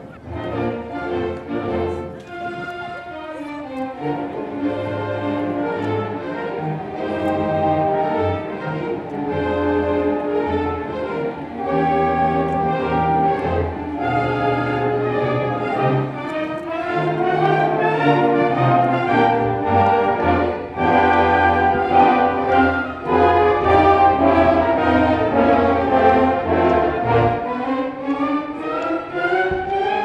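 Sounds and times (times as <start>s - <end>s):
orchestral music with brass: 0.0s - 30.0s.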